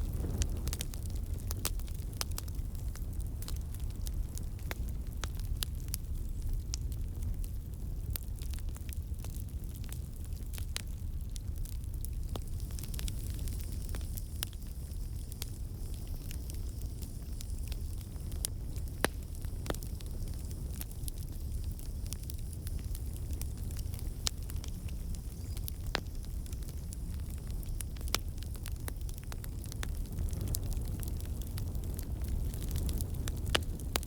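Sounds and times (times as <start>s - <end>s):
burning wood popping and crackling: 0.0s - 34.0s
low rumble of flames: 0.0s - 34.0s.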